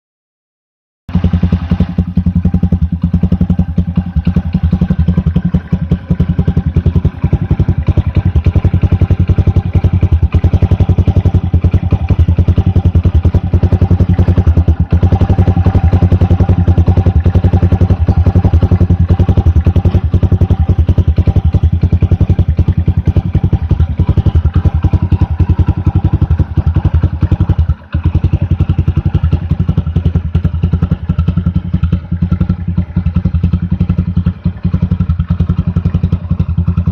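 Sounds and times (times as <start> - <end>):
motorcycle engine idling: 1.1 - 36.9.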